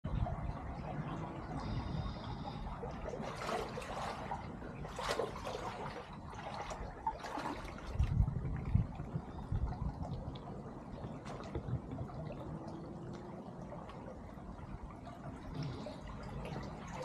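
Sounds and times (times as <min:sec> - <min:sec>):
brook water trickling and splashing: 0:00.0 - 0:17.0.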